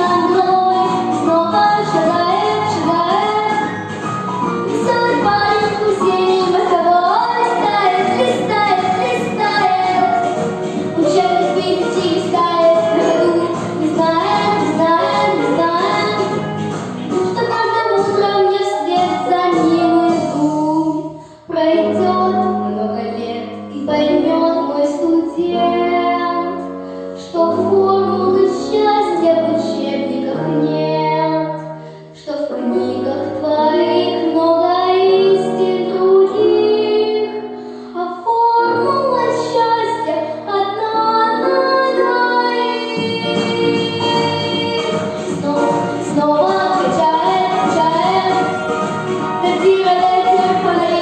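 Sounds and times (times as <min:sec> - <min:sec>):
girl singing: 0:00.0 - 0:03.7, 0:04.7 - 0:16.5, 0:17.1 - 0:48.6, 0:49.4 - 0:51.0
recorded backing track: 0:00.0 - 0:51.0.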